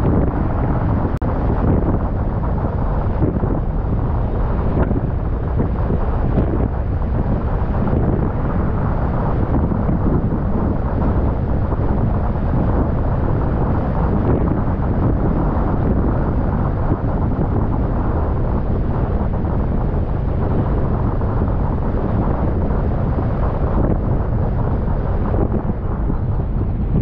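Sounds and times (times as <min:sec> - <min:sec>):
wind rushing: 0:00.0 - 0:27.0.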